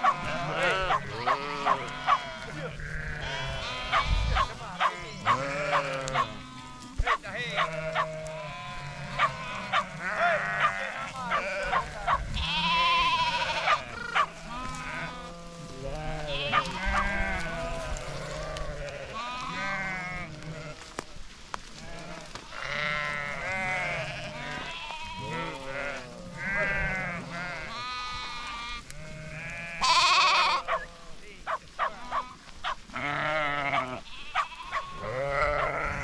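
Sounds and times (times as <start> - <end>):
sheep bleating: 0.0 - 21.2, 21.8 - 36.0.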